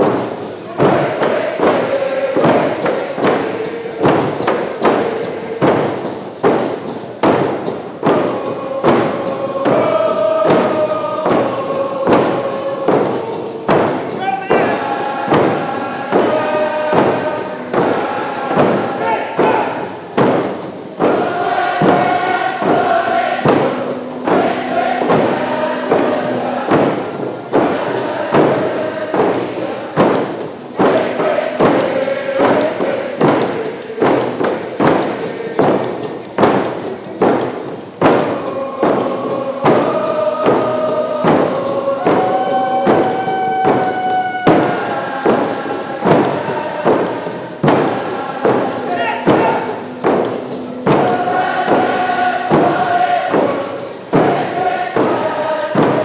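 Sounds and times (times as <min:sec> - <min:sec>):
group of voices chanting: 0:00.0 - 0:56.0
hand drums beating: 0:00.0 - 0:56.0.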